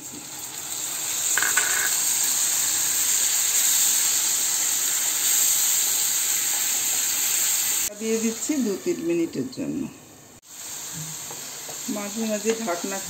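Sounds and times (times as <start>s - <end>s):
paste sizzling in hot oil: 0.0s - 9.0s, 10.4s - 13.0s.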